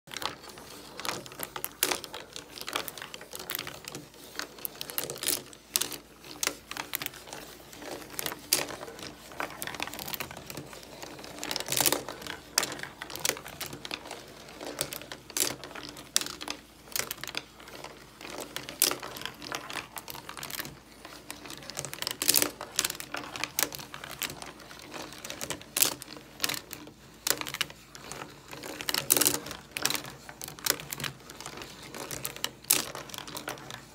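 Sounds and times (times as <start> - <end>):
marbles rolling and clacking: 0.1 - 33.9.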